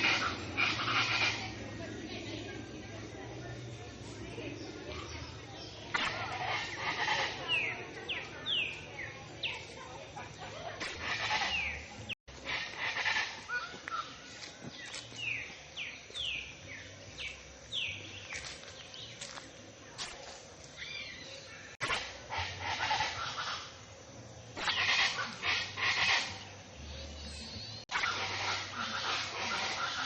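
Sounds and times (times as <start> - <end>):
outdoor background noise: 0.0 - 30.0.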